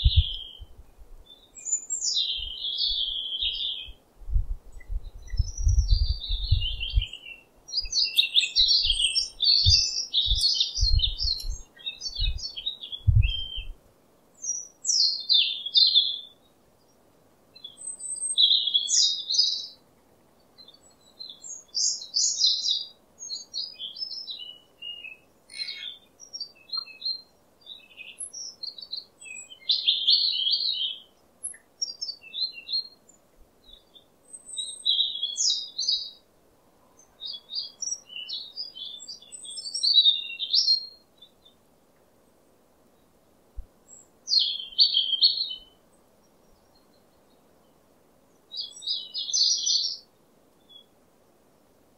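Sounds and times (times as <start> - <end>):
songbirds chirping and singing: 0.0 - 4.0, 4.7 - 13.8, 14.4 - 43.2, 43.9 - 51.0.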